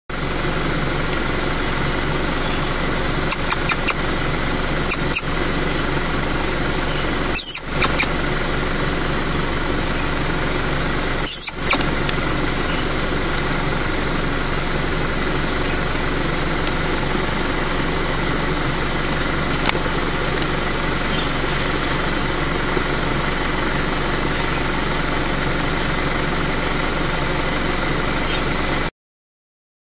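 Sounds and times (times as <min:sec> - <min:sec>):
car engine idling: 0:00.1 - 0:28.9.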